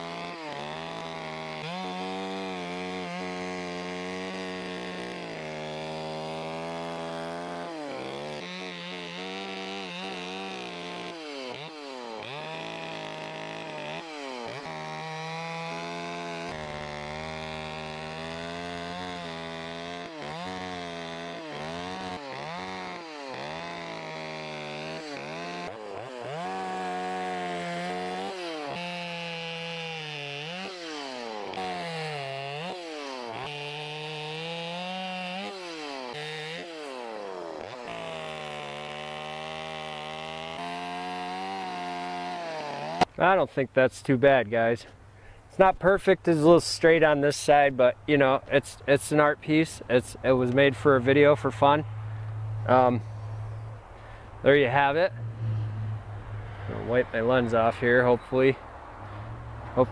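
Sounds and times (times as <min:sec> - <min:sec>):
chainsaw cutting into wood: 0:00.0 - 0:43.3, 0:48.6 - 0:58.3.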